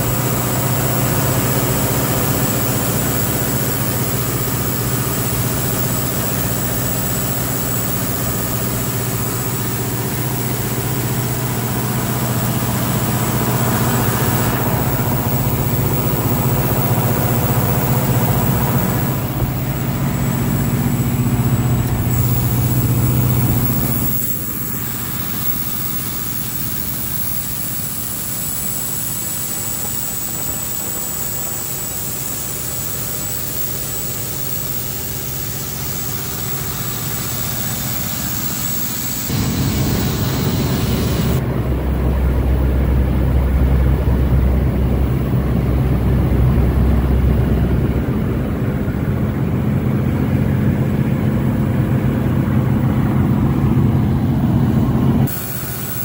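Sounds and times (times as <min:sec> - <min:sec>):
diesel generator engine droning: 0:00.0 - 0:56.0
thin high whine: 0:00.0 - 0:56.0.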